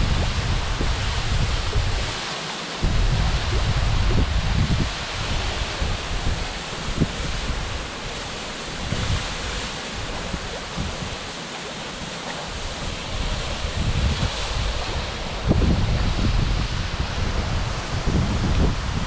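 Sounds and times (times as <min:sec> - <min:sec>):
wind buffeting microphone: 0:00.0 - 0:02.2, 0:02.8 - 0:19.0
waterfall rushing: 0:00.0 - 0:19.0.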